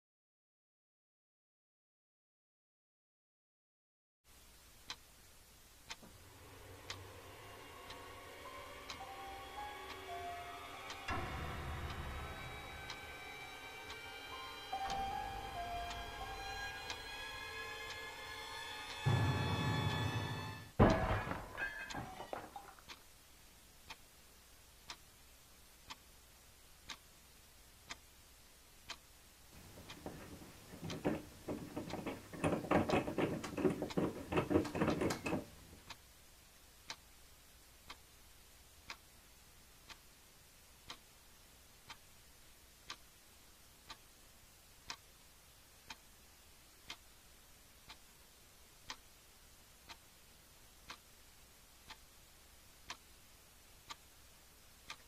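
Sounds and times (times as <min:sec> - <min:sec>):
wall clock ticking: 0:04.3 - 0:55.0.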